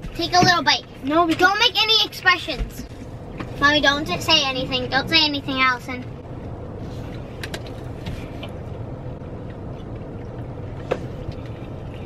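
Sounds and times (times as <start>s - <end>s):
car engine humming in cabin: 0.0s - 12.0s.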